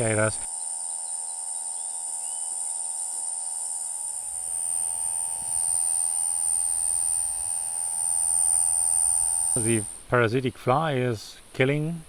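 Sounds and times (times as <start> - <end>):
cicada buzzing: 0.0 - 10.1.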